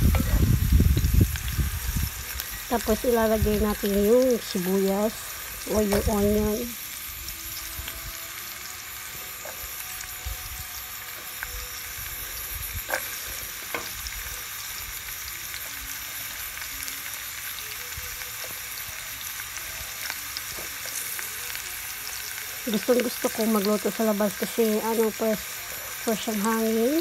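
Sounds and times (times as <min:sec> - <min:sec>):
onion sizzling in hot oil: 0:00.0 - 0:27.0.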